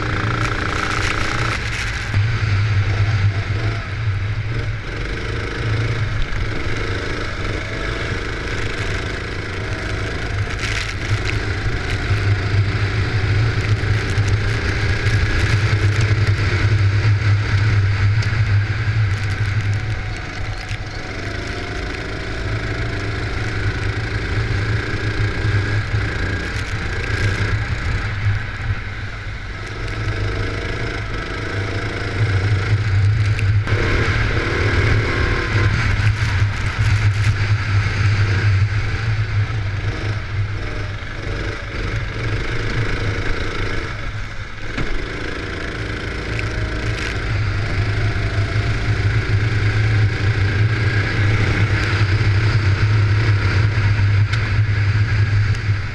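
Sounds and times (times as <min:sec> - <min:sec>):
kart engine revving: 0:00.0 - 0:55.9
wind noise: 0:00.0 - 0:55.9.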